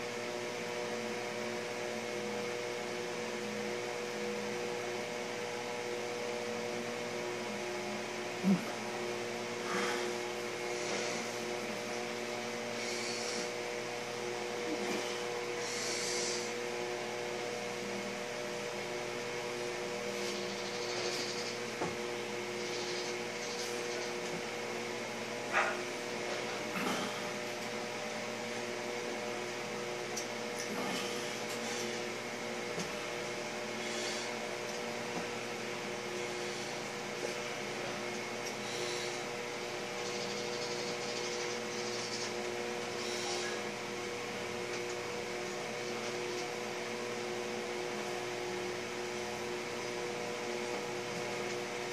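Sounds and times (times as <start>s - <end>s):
steady mechanical hum: 0.0s - 51.9s.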